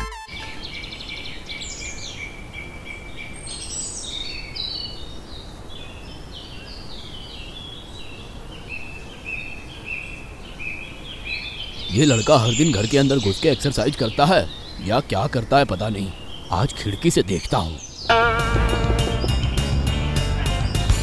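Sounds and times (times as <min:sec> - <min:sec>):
small birds chirping: 0:00.3 - 0:21.0
low background noise: 0:00.4 - 0:18.1.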